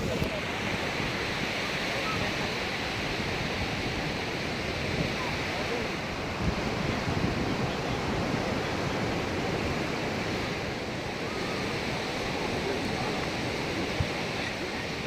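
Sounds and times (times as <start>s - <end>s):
sea surf on the shore: 0.0s - 15.0s
wind rumbling on microphone: 0.0s - 15.0s.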